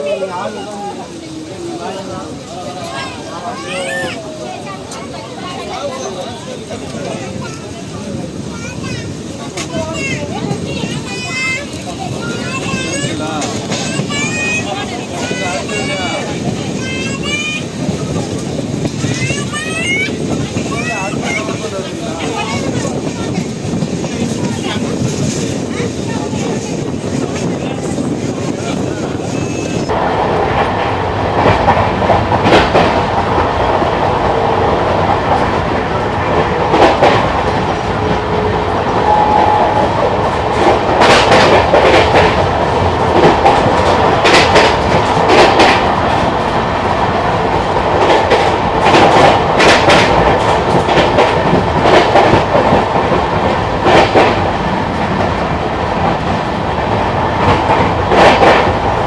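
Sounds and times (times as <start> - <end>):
train rumbling at speed: 0.0 - 59.0
wheels clacking over rail joints: 9.0 - 59.0.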